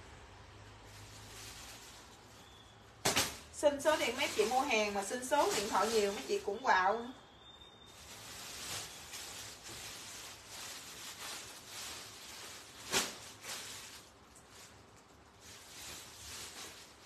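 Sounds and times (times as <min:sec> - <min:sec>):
hands rustling garments: 0:01.0 - 0:06.6, 0:08.0 - 0:17.0.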